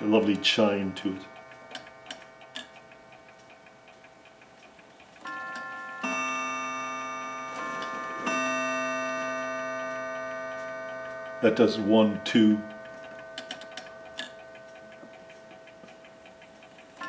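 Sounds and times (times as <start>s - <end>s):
clock chime ringing: 0.0s - 3.9s, 5.2s - 17.0s
clock ticking: 0.0s - 17.0s.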